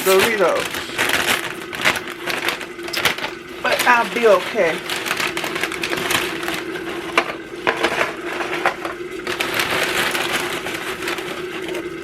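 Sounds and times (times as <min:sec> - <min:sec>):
meat sizzling and crackling: 0:00.0 - 0:12.0
steady hum: 0:00.0 - 0:12.0.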